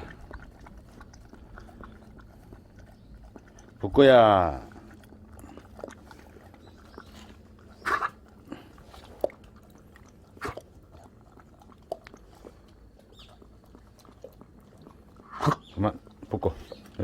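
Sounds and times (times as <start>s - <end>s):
dog chewing: 0.0s - 17.0s.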